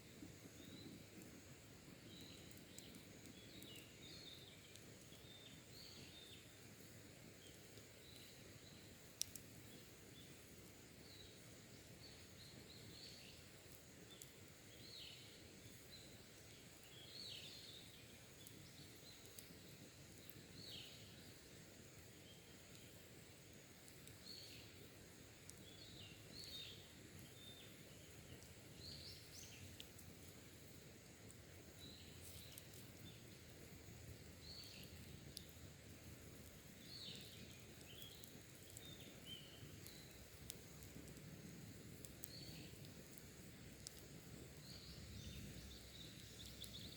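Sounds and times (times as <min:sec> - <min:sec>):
faint birds chirping: 0:00.0 - 0:46.9.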